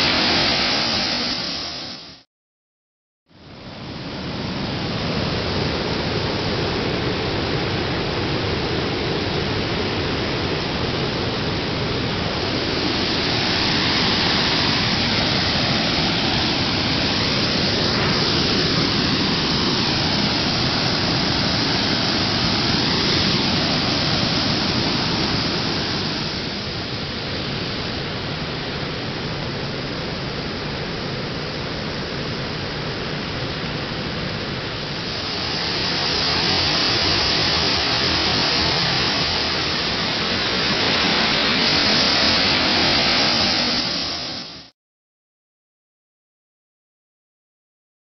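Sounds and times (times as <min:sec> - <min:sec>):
loud rushing noise: 0:00.0 - 0:02.2, 0:03.8 - 0:30.8, 0:31.4 - 0:44.7.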